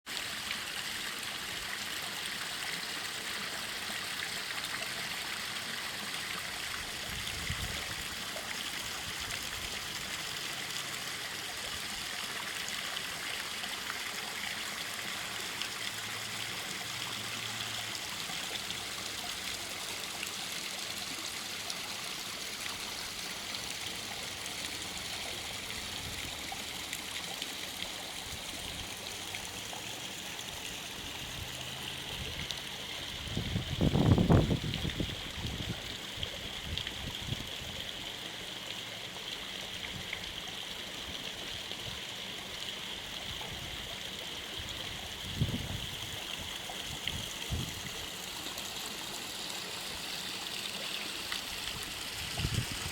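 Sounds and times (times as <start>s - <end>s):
small waterfall splashing into pond: 0.0s - 52.9s.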